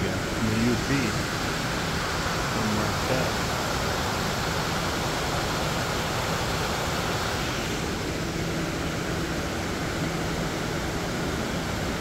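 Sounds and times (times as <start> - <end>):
roar of waterfall and rapids: 0.0 - 12.0.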